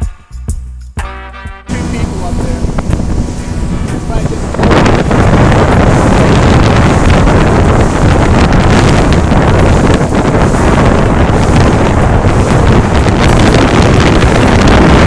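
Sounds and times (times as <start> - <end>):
wind buffeting microphone: 1.7 - 15.0.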